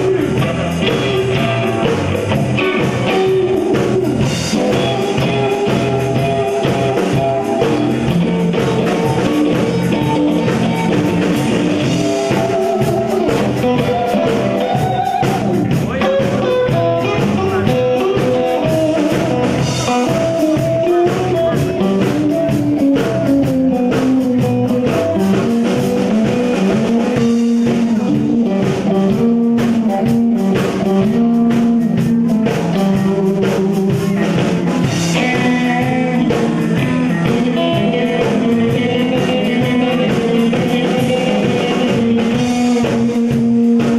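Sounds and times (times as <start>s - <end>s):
drum kit steady beat: 0.0s - 43.9s
electric guitar melody: 0.0s - 43.9s.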